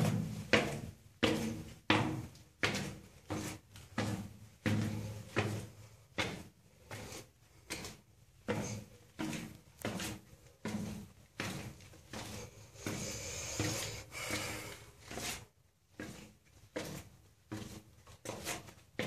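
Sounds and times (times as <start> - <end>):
footsteps on stone floor: 0.0 - 19.0.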